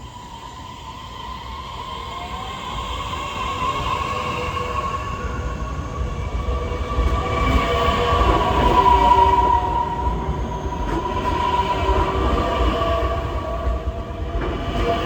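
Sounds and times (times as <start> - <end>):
high train whine: 0.0 - 15.0
train rumbling: 0.0 - 15.0.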